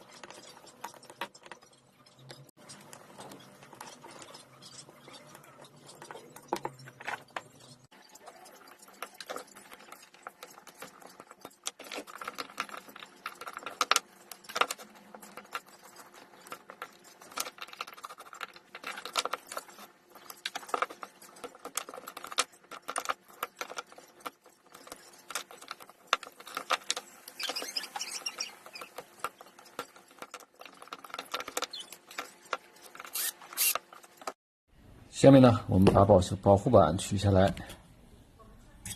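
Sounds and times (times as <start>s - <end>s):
scratchy scraping: 0.0s - 34.3s.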